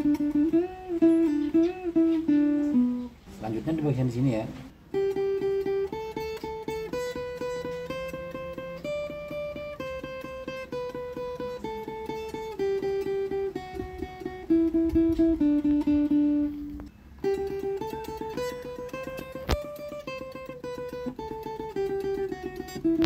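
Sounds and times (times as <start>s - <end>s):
guitar picking melody: 0.0s - 23.0s.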